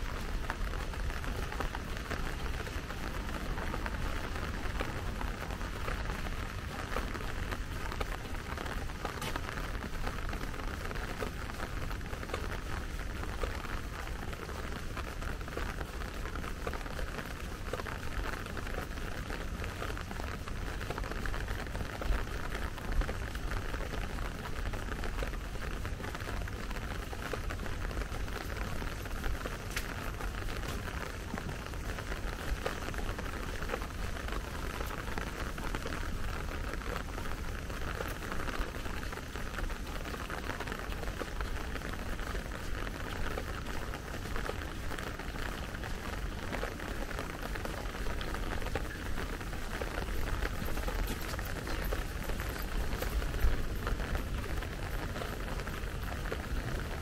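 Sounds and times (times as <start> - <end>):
rain pattering on wet paving: 0.0 - 57.0.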